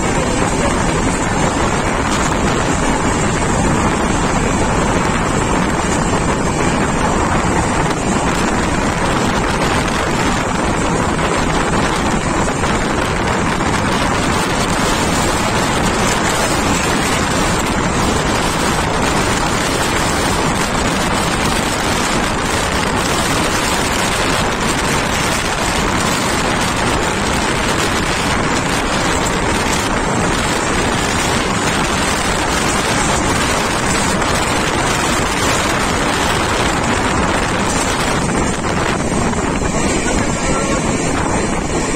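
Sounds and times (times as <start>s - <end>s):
express train running: 0.0s - 41.9s
wind rushing over microphone: 0.0s - 41.9s.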